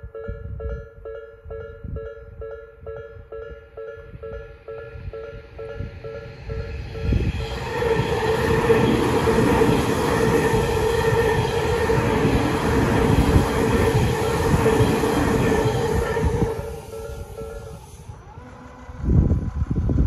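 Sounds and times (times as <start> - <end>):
crossing warning bell ringing: 0.0 - 19.0
train wheels on rails: 0.6 - 20.0.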